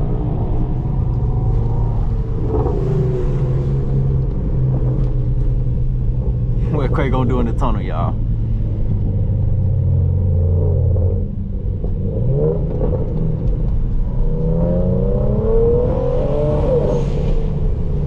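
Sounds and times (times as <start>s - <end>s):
car engine revving in a tunnel: 0.0s - 7.6s, 8.2s - 18.0s.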